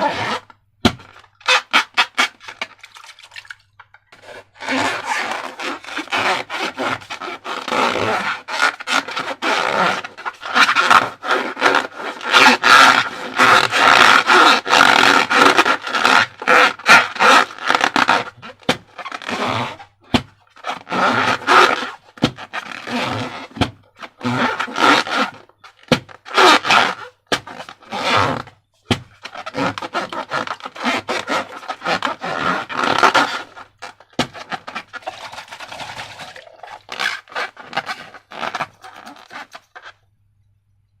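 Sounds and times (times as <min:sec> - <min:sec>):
slime balloons rubbing and squelching: 0:00.0 - 0:02.7, 0:04.1 - 0:40.0.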